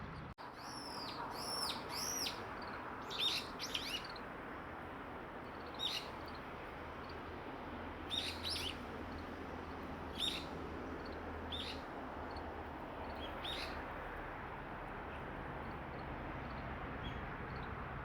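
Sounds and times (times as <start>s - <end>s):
small songbirds chirping: 0.4s - 18.0s.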